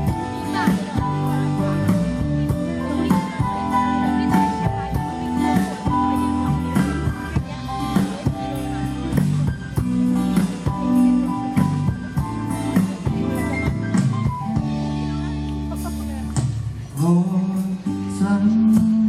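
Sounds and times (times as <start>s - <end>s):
drum kit beat: 0.0s - 19.0s
live band playing pop: 0.0s - 19.0s.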